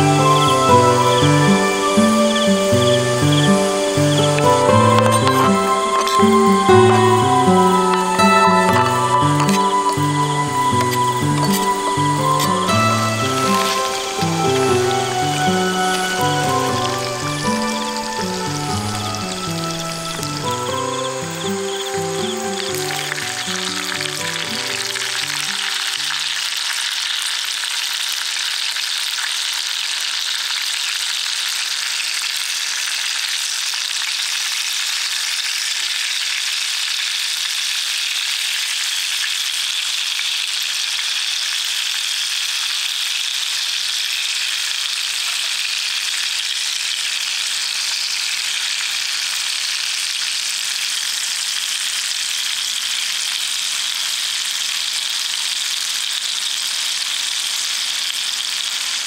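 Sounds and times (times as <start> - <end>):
vegetables sizzling in oil: 0.0 - 59.0.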